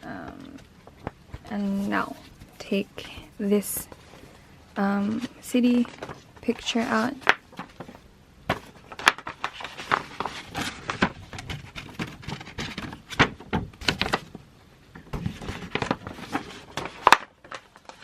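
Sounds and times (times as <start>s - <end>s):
paper and card rustling: 0.2s - 14.4s, 15.1s - 18.0s.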